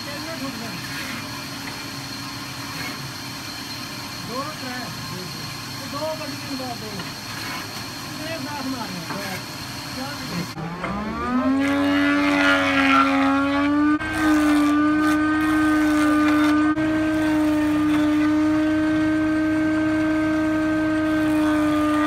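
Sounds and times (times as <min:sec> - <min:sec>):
mechanical drone: 0:00.0 - 0:22.0.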